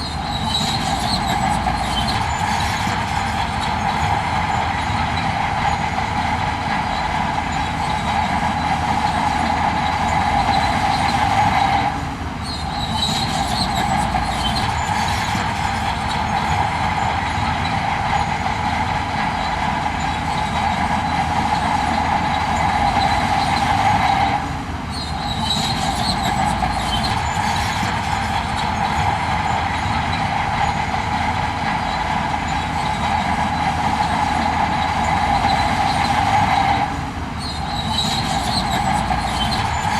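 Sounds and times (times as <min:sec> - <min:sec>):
heavy machinery engine drone: 0:00.0 - 0:39.9
metallic squeal of tracks: 0:00.0 - 0:39.9.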